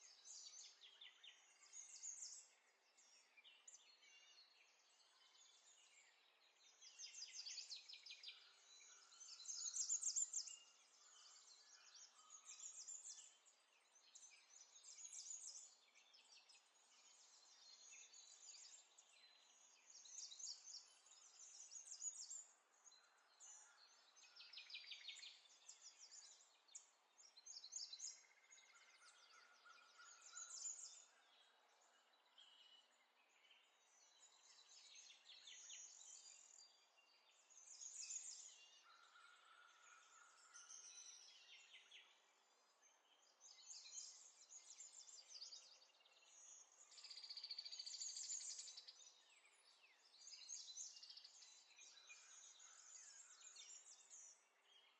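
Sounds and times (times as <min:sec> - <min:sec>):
faint birds chirping: 0:00.0 - 0:54.9.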